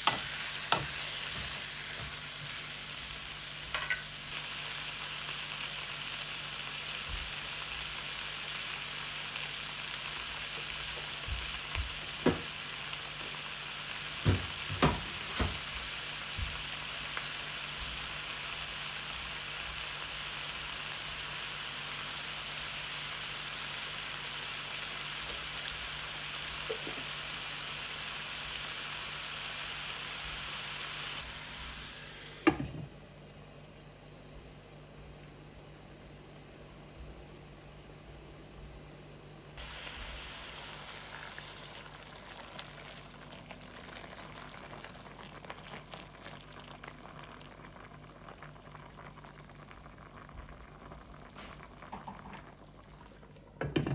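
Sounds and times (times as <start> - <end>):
food sizzling in a pan: 0.0 - 32.8, 39.6 - 53.4.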